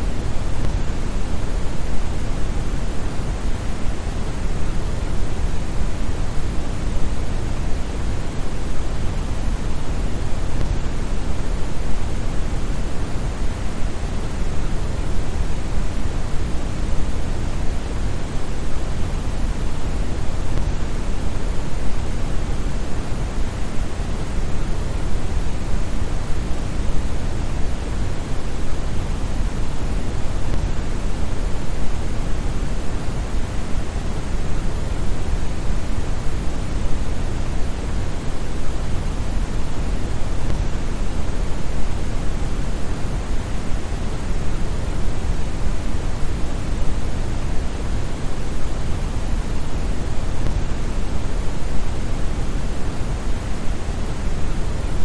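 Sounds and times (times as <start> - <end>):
deep brown noise hiss: 0.0 - 55.0.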